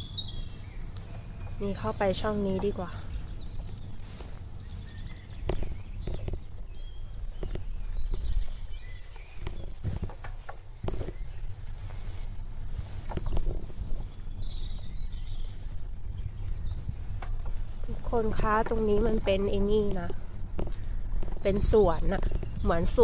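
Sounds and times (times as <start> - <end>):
bicycle rolling on pavement: 0.0 - 23.0
small birds chirping: 0.0 - 23.0
wind rumble: 0.0 - 23.0.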